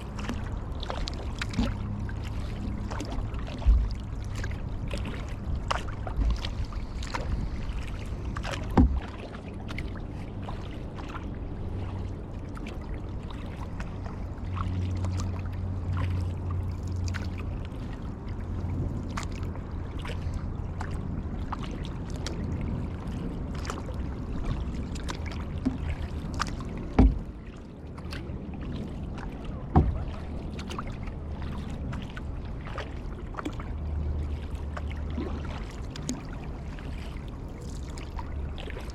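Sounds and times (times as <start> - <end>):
water dripping and splashing: 0.0 - 18.0, 18.6 - 38.9
low steady rumble: 0.0 - 38.9
kayak paddle strokes: 0.1 - 17.9, 20.0 - 38.9.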